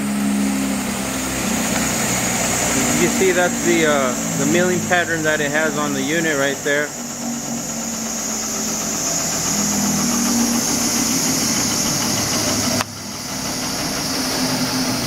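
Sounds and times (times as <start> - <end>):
milling machine whining: 0.0 - 15.0.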